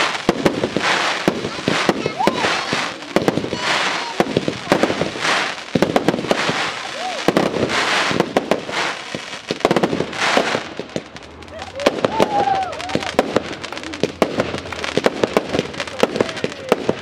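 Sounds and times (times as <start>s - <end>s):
firework crackle: 0.0s - 17.0s
firework shells bursting: 0.0s - 17.0s.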